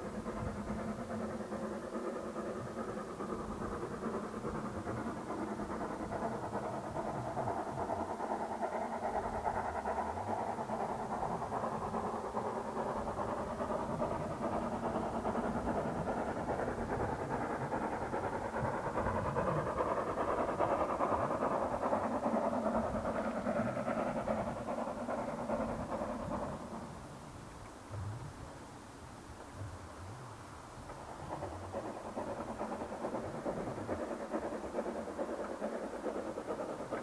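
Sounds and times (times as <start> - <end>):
distant steam train running: 0.0 - 37.0.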